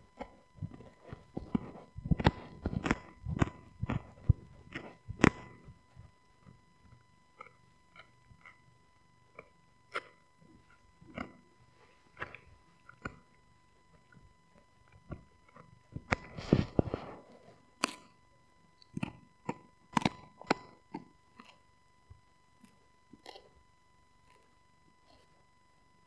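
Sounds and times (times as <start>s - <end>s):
dog chewing a bone: 0.1s - 18.2s, 18.8s - 21.7s, 22.6s - 23.5s.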